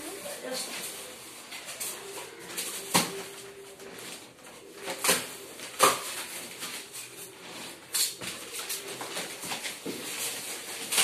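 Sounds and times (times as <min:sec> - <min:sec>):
cardboard rustling: 0:00.1 - 0:11.0.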